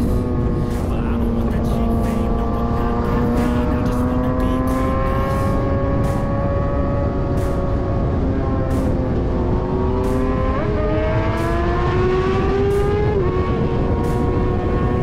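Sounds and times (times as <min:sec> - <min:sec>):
motorcycle engine at high revs: 0:00.0 - 0:15.0
wind rush on microphone: 0:00.0 - 0:15.0.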